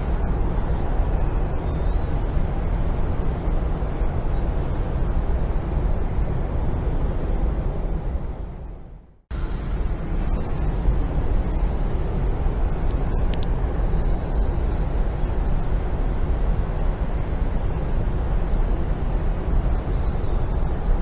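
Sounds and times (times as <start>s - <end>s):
low rumbling room noise: 0.0s - 21.0s.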